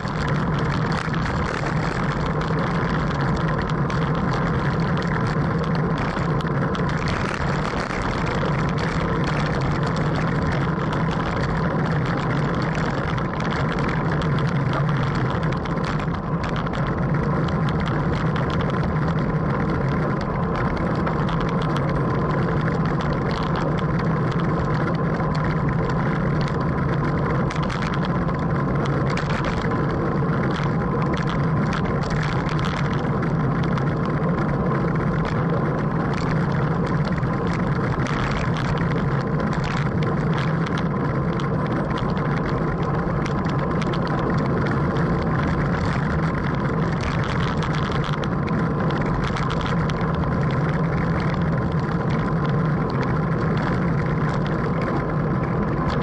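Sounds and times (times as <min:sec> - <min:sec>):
constant low hum: 0:00.0 - 0:56.0
tyres on road: 0:00.0 - 0:56.0
wind rush: 0:00.0 - 0:56.0.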